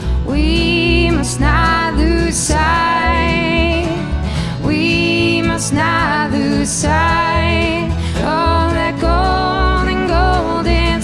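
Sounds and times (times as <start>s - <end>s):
person singing: 0.0s - 11.0s
strummed acoustic guitar: 0.0s - 11.0s
walking bass line: 0.0s - 11.0s.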